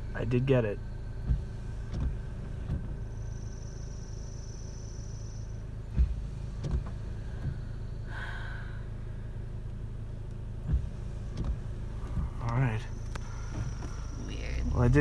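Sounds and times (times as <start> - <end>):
car engine idling: 0.0 - 15.0
dull low thumps: 0.0 - 15.0.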